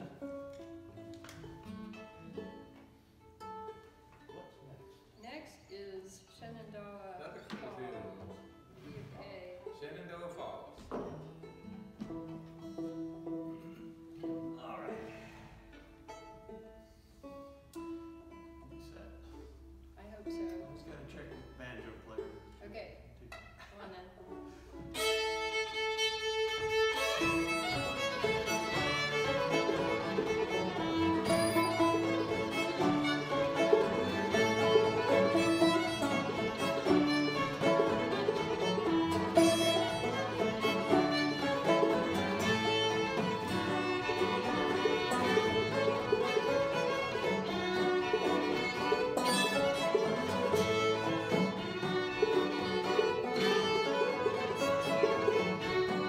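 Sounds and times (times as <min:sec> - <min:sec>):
string band playing: 0:00.0 - 0:05.8, 0:06.4 - 0:56.0.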